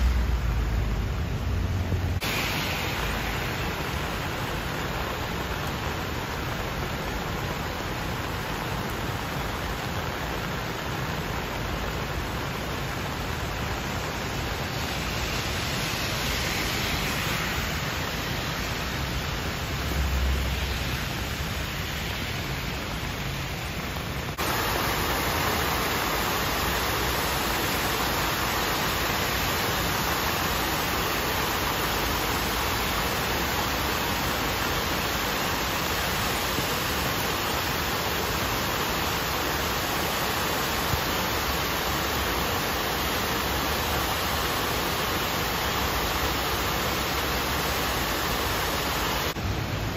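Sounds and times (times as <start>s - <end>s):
floodwater rushing through stream: 0.0s - 49.9s
water pouring down stone wall: 2.2s - 22.4s, 24.0s - 49.4s.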